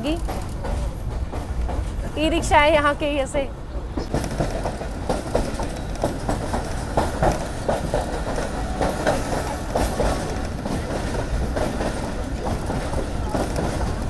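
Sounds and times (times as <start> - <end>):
train rumbling: 0.0 - 14.0
wheels clacking over rail joints: 0.0 - 14.0.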